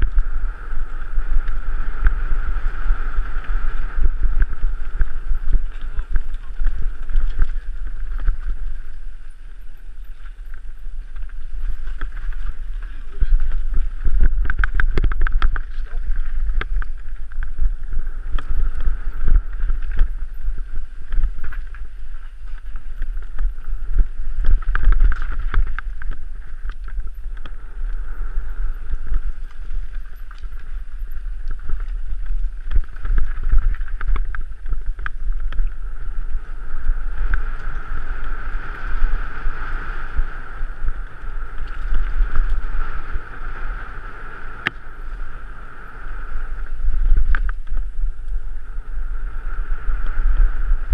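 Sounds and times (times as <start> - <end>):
bike rattling over stones: 0.0 - 50.9
wind rumble on microphone: 0.0 - 50.9.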